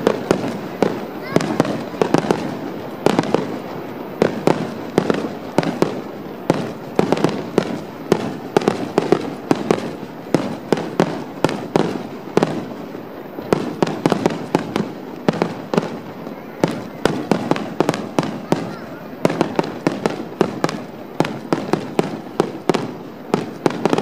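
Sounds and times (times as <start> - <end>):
continuous firework rumble: 0.0 - 24.0
firework shells booming: 0.0 - 24.0.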